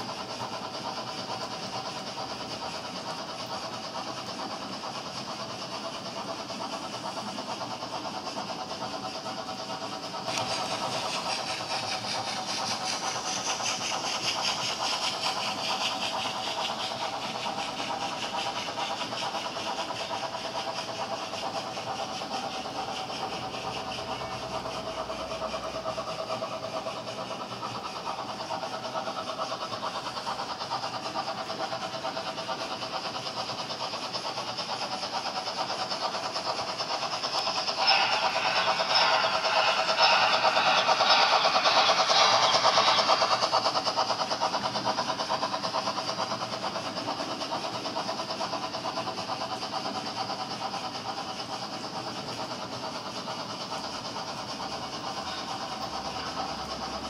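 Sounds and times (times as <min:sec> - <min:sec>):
model train wheels rattling: 0:00.0 - 0:57.0.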